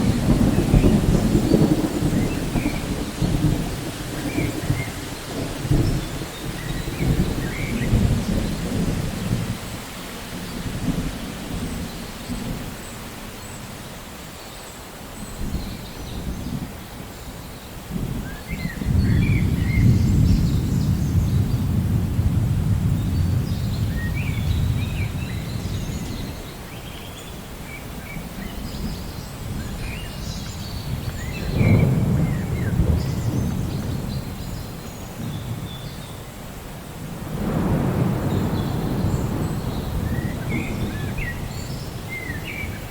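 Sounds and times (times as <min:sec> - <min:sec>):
rolling thunder: 0:00.0 - 0:12.8, 0:17.9 - 0:26.4, 0:28.3 - 0:36.1, 0:37.0 - 0:42.9
steady rain: 0:00.0 - 0:42.9.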